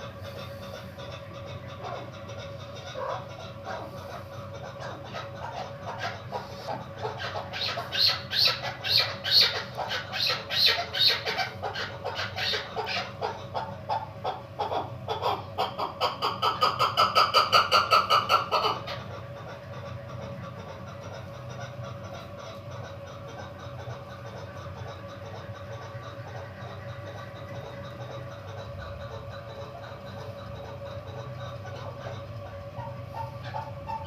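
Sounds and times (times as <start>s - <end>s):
partridge clucking calls: 0.0s - 34.0s.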